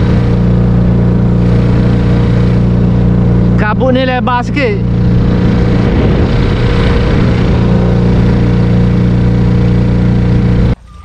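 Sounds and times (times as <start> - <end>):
water and wind rushing: 0.0 - 10.8
outboard motor running: 0.0 - 10.9.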